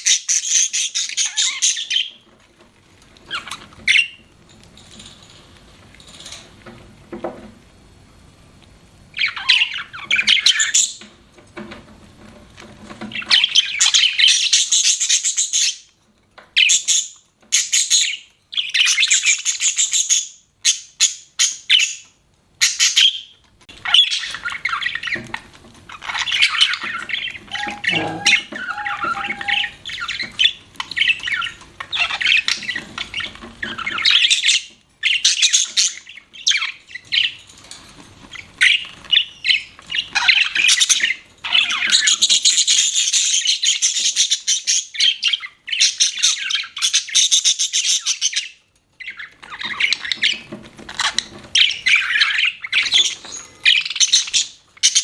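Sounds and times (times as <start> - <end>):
budgerigars chirping and chattering: 0.0 - 2.3, 3.2 - 4.3, 9.1 - 11.1, 12.7 - 55.0.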